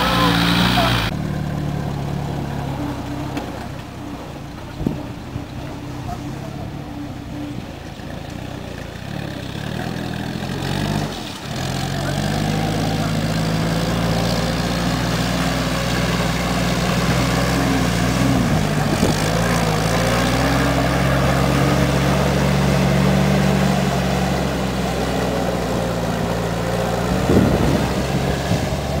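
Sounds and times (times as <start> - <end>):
jeep engine running: 0.0 - 29.0.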